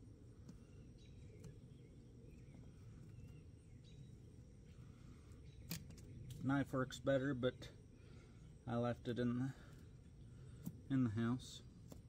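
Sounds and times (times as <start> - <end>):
faint bird chirps: 0.0 - 11.7.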